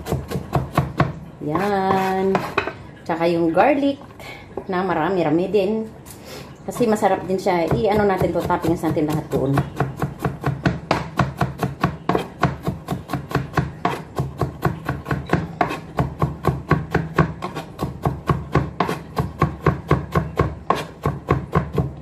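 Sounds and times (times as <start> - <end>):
knife chopping on cutting board: 0.0 - 2.7, 6.7 - 22.0.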